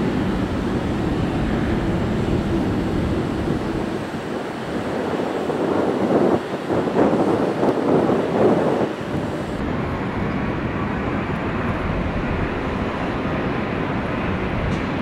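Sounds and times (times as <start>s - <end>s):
jet airliner rumble: 0.0s - 15.0s
wind buffeting microphone: 0.0s - 15.0s.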